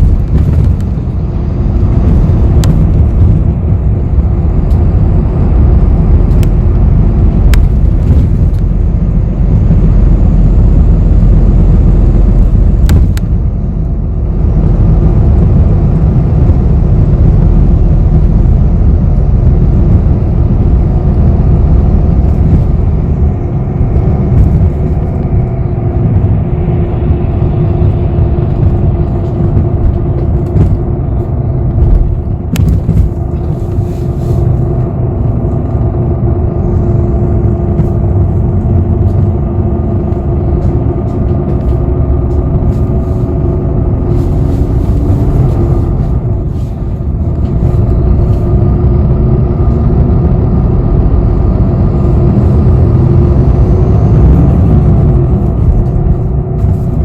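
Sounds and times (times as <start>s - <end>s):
bus engine and road rumble: 0.0s - 57.0s
steady engine hum: 0.0s - 57.0s.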